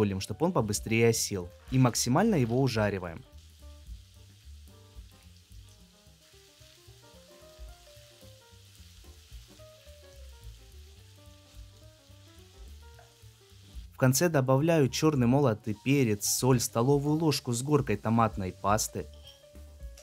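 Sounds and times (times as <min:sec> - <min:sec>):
faint background music: 0:00.0 - 0:20.0
meat and onions sizzling in a pan: 0:01.2 - 0:20.0.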